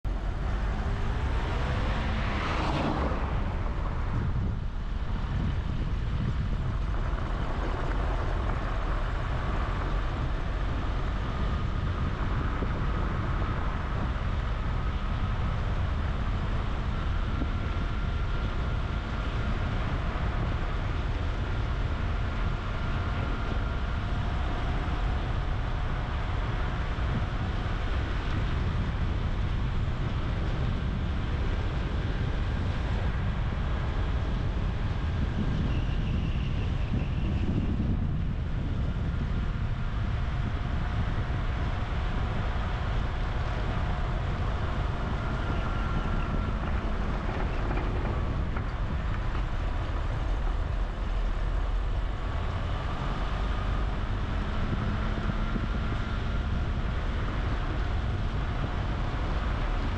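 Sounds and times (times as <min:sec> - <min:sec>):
road and wind rumble: 0:00.0 - 0:59.9.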